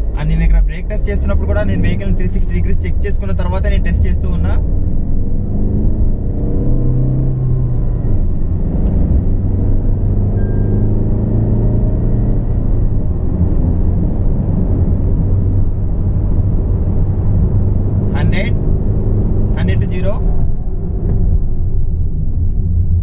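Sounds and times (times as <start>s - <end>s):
car engine hum: 0.0s - 23.0s
road rumble: 0.0s - 23.0s.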